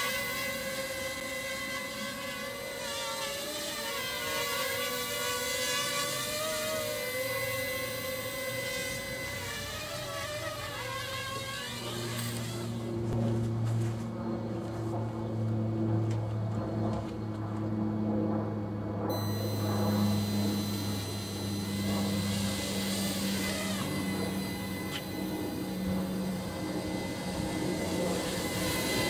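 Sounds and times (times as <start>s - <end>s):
drone motors humming: 0.0s - 17.4s, 19.1s - 29.0s
high-pitched motor whine: 0.0s - 29.0s.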